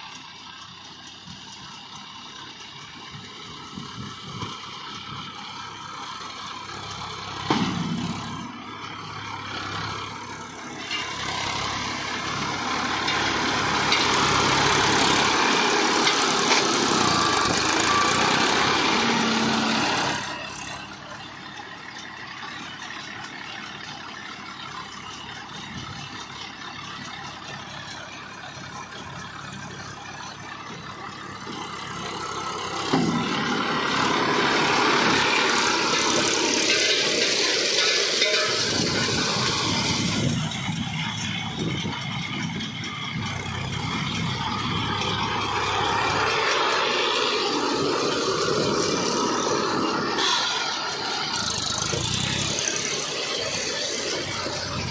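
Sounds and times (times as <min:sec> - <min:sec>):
diesel tractor engine under load: 0:00.0 - 0:54.9.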